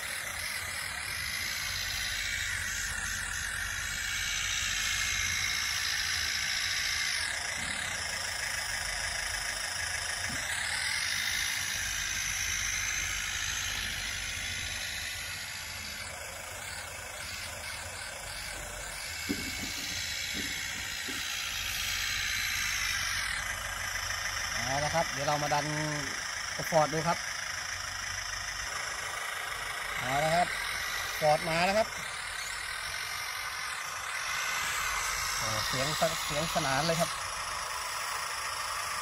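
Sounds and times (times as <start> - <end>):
electric motor whine: 0.0 - 39.0
simulated tractor engine sound: 0.0 - 39.0.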